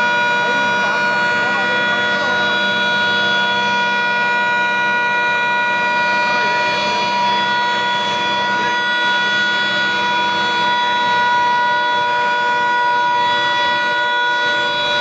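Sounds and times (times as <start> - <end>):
loud siren-like blare: 0.0 - 15.0.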